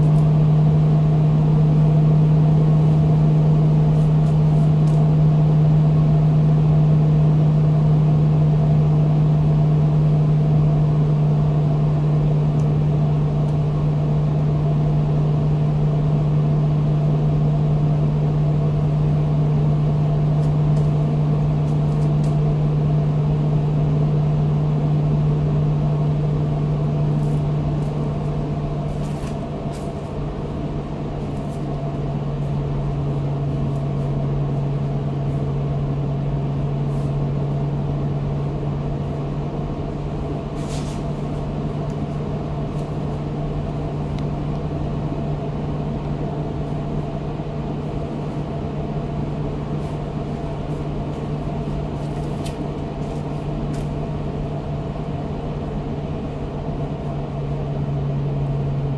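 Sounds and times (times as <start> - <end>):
fan running with loud hum: 0.0 - 58.9.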